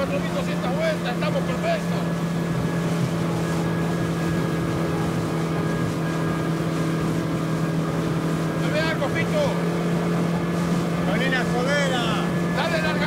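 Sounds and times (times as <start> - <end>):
boat motor humming: 0.0 - 13.0
hiss of water and wind: 0.0 - 13.0.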